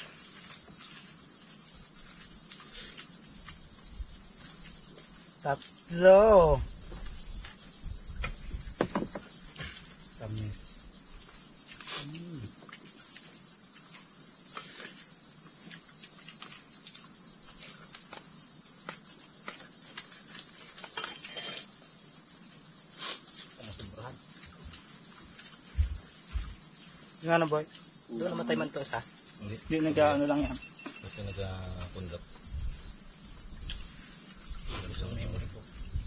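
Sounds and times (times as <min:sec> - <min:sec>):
insect chorus buzzing: 0:00.0 - 0:36.0.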